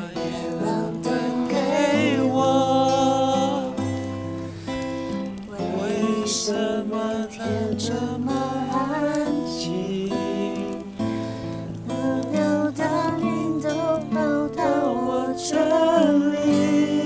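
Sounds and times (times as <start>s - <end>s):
woman singing slow song: 0.0s - 4.2s, 5.4s - 11.1s, 11.7s - 17.0s
acoustic guitar: 0.0s - 17.0s.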